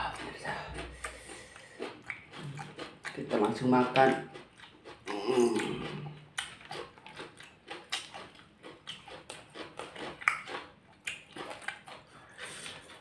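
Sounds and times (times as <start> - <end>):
chewing: 0.0 - 13.0
wet lip-smacking: 0.0 - 13.0.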